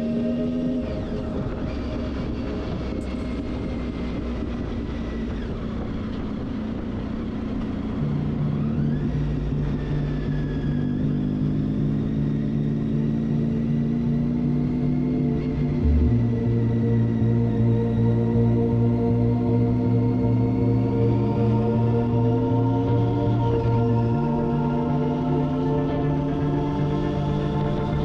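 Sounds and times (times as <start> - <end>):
low music drone: 0.0 - 28.0
motorcycle engine and wind rumble: 0.0 - 28.0.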